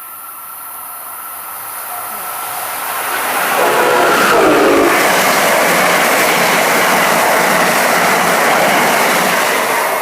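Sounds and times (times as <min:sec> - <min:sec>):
train passing at speed: 0:00.1 - 0:10.0.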